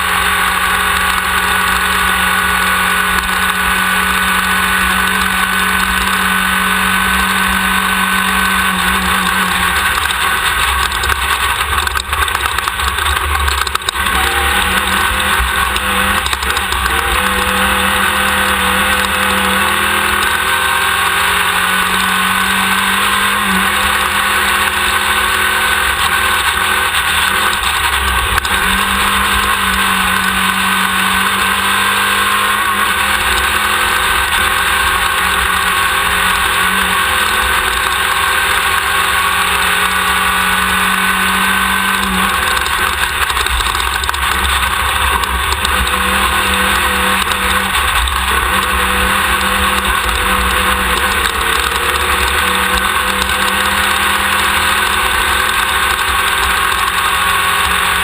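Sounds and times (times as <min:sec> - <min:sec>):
buggy engine running hard: 0:00.0 - 0:58.0.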